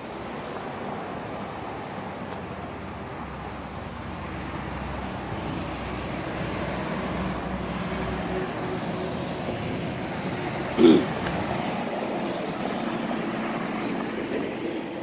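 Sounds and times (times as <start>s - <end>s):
street traffic: 0.0s - 15.0s
vehicle engine rumble: 0.0s - 15.0s.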